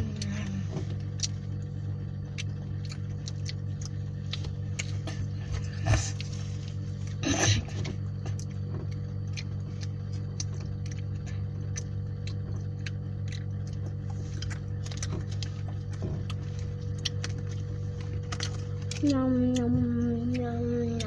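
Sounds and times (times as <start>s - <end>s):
person chewing and smacking food: 0.0s - 21.0s
steady low hum: 0.0s - 21.0s.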